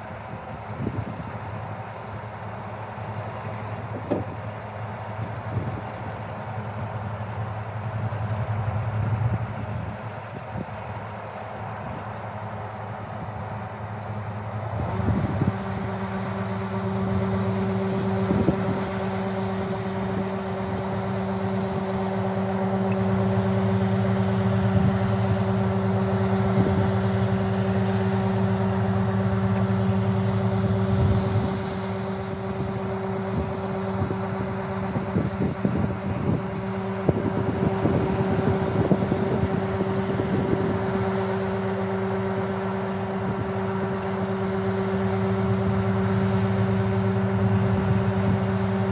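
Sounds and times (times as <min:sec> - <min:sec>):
engine humming: 0:00.0 - 0:48.9.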